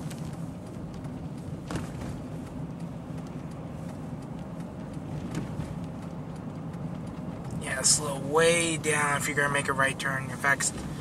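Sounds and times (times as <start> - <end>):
car cabin engine and road noise: 0.0 - 11.0.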